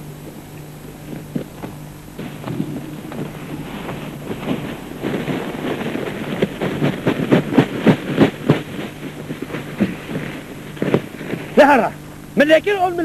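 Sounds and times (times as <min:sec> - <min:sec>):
dry brush crackling and snapping: 0:00.1 - 0:12.3.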